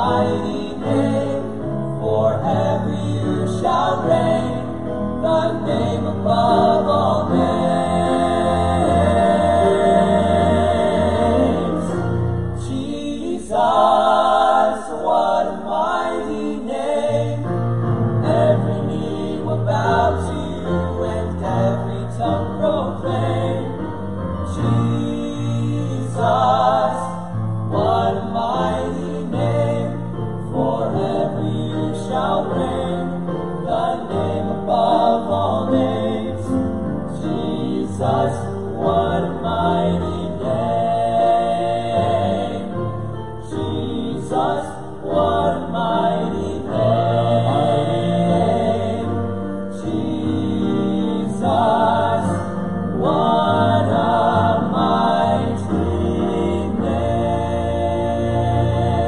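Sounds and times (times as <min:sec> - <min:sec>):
male vocal quartet singing gospel: 0:00.0 - 0:59.0.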